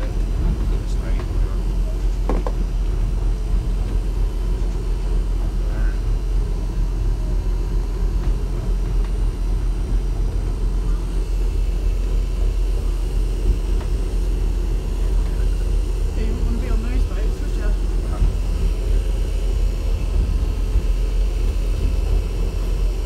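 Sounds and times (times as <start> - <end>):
motor boat engine rumble: 0.0 - 23.0
wind: 0.0 - 23.0.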